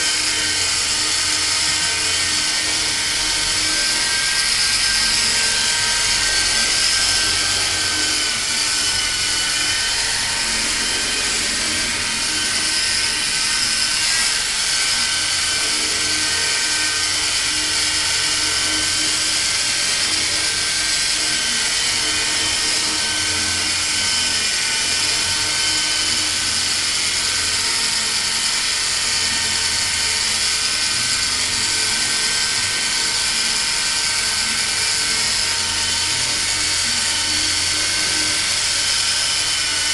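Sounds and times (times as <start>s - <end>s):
electric helicopter motor whine: 0.0s - 39.9s.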